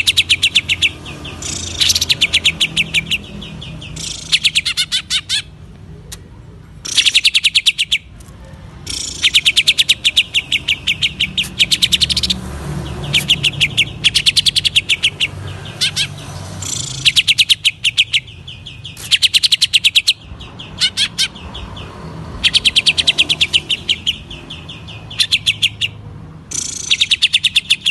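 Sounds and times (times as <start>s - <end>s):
bird rapid staccato calls: 0.0s - 5.6s, 6.8s - 8.1s, 8.8s - 27.9s.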